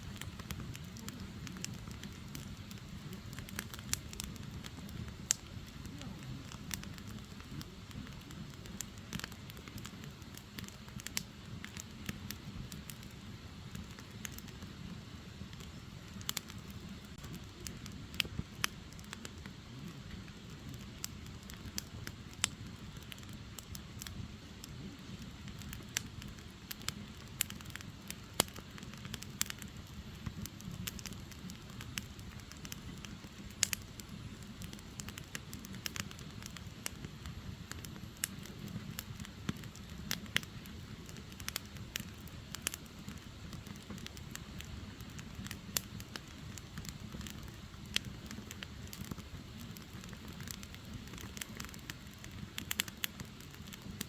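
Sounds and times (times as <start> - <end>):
low rumble of flame: 0.0 - 54.0
wood logs crackling and popping: 0.0 - 54.0.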